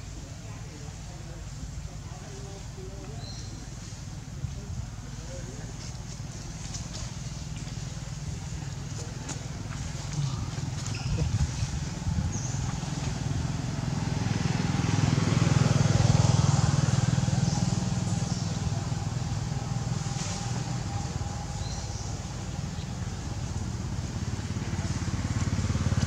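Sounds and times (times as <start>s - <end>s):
vehicle engine passing by: 4.9s - 26.0s.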